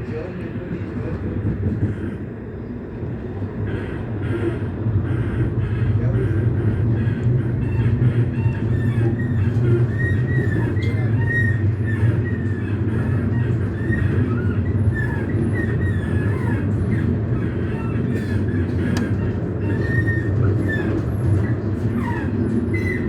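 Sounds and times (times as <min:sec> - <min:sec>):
tram rumbling: 0:00.0 - 0:23.0.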